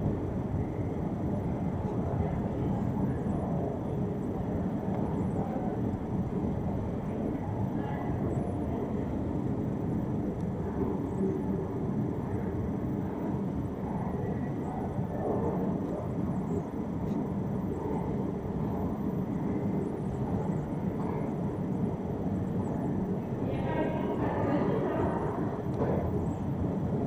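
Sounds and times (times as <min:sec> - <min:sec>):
underground station ambience: 0:00.0 - 0:27.0.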